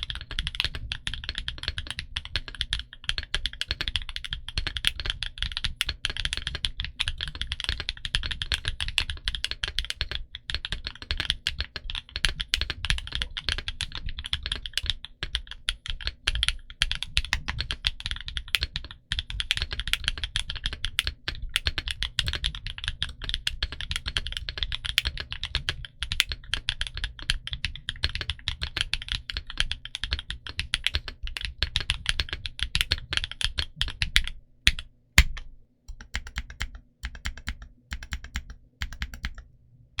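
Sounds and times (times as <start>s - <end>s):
mechanical keyboard typing: 0.0s - 39.5s.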